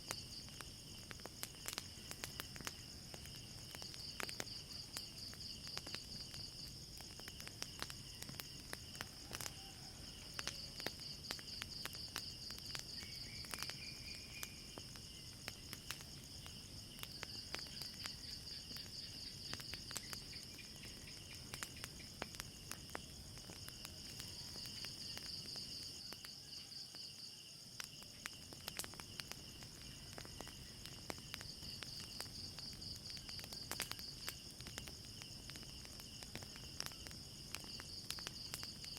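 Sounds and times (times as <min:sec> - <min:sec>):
crickets trilling: 0:00.0 - 0:38.9
wood fire popping and crackling: 0:00.0 - 0:38.9.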